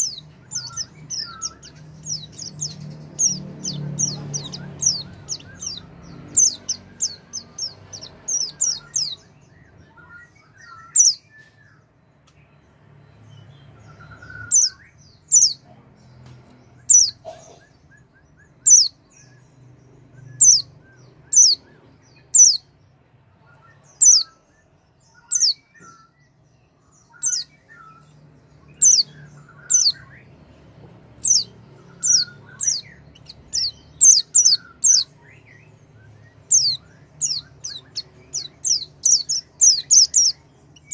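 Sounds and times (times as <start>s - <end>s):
bird high chirps: 0.0s - 40.9s.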